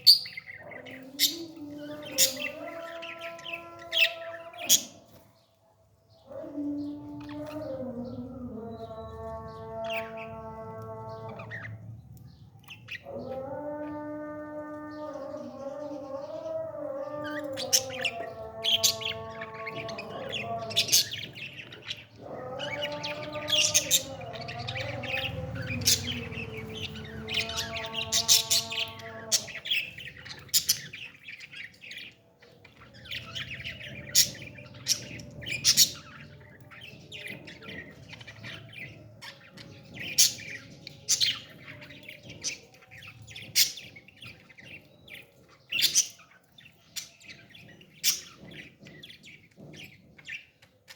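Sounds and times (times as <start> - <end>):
parrots chirping: 0.0 - 14.0, 14.6 - 50.9.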